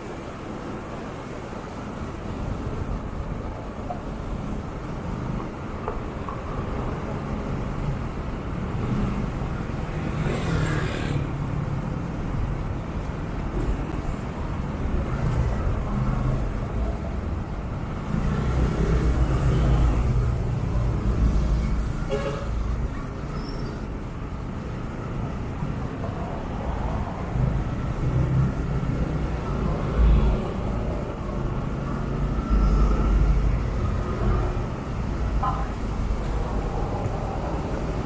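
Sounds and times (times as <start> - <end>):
drone of car and bus engines: 0.0 - 38.0.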